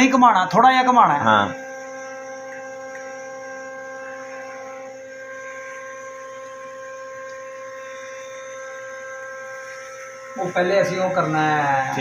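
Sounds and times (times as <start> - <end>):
lathe machinery humming and whining: 0.0 - 12.0.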